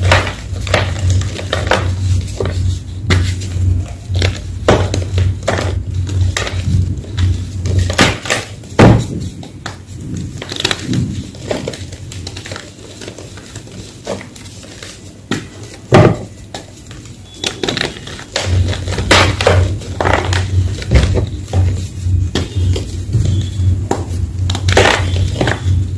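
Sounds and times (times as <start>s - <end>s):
chalk blocks crunching: 0.0s - 25.9s.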